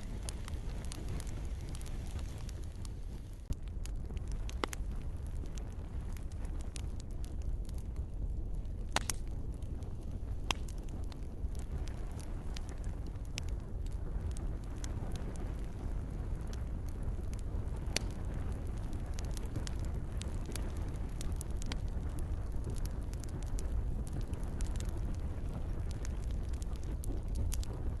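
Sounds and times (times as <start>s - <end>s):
campfire crackling: 0.0s - 28.0s
fire popping: 0.0s - 28.0s
steady low rumble: 0.0s - 28.0s.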